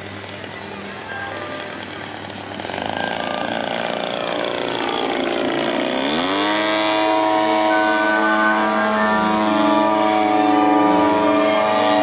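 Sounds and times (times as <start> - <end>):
model airplane engine buzzing: 0.0 - 12.0.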